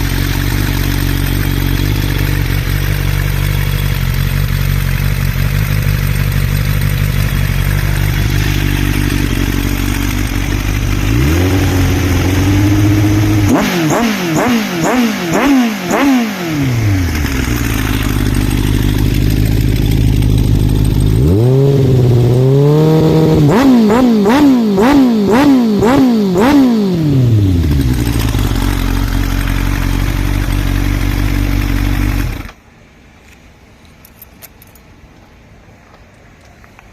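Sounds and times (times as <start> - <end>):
motorcycle engine idling and revving: 0.0 - 32.6.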